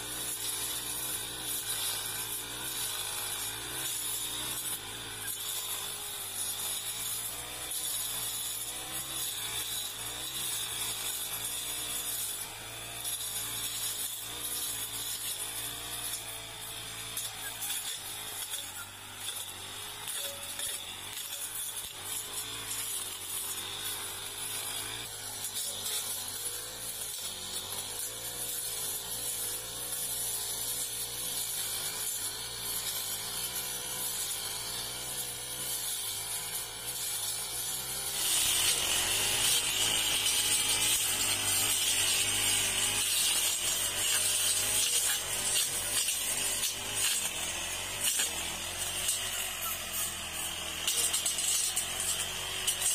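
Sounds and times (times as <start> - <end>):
petrol brush cutter cutting grass: 0.0 - 52.9.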